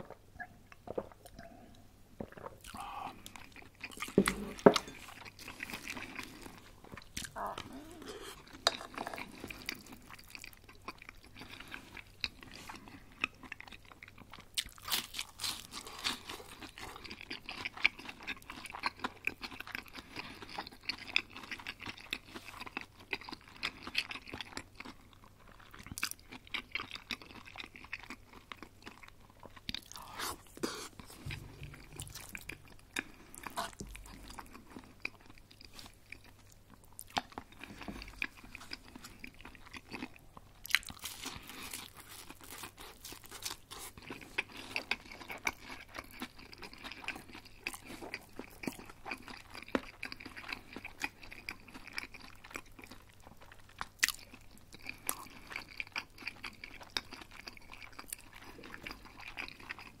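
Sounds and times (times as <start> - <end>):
person chewing crispy food: 2.2 - 60.0.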